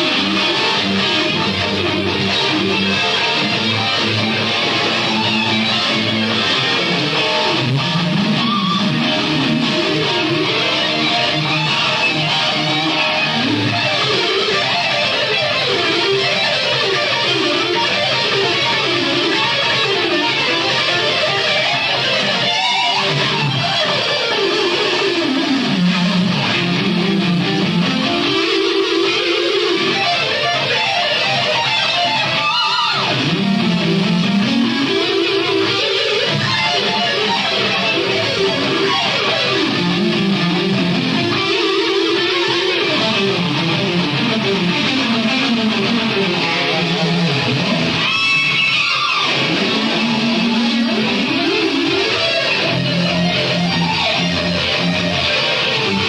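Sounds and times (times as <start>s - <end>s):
fast electric guitar runs: 0.0s - 56.0s
lower guitar notes: 0.0s - 56.0s.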